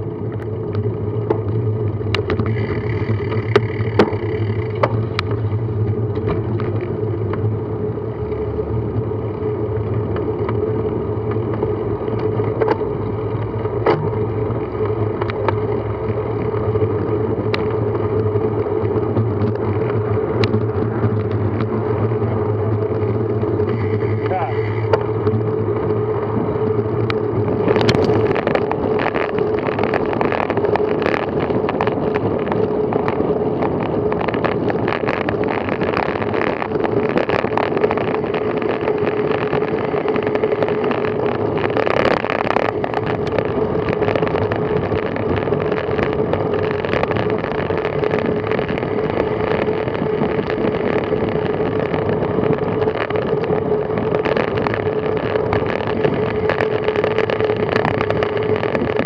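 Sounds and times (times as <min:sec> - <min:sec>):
constant hum: 0:00.0 - 0:59.0
dense crackle: 0:00.0 - 0:59.0
wind and road noise: 0:00.0 - 0:59.0.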